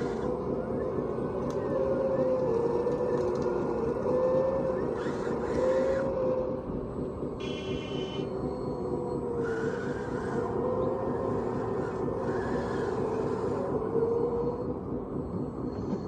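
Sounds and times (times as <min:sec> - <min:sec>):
wavering motor whine: 0:00.0 - 0:16.0.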